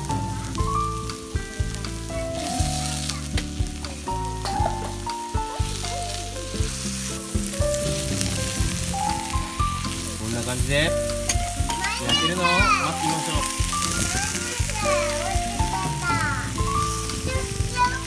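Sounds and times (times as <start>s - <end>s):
patties sizzling on griddle: 0.0s - 18.0s.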